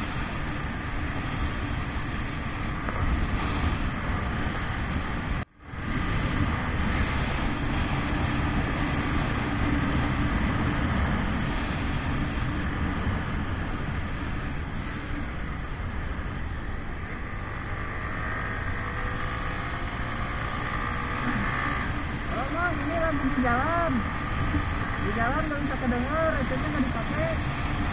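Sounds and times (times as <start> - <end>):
motorcycle engine running: 0.0 - 27.9
wind rushing over microphone: 0.0 - 27.9.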